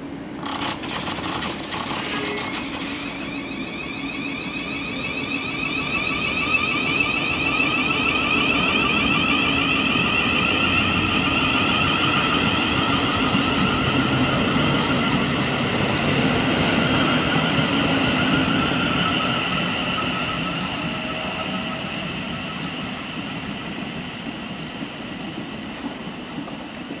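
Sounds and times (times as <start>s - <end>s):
train wheels rumbling on rail: 0.0s - 27.0s
electric train motor whine: 0.4s - 23.4s.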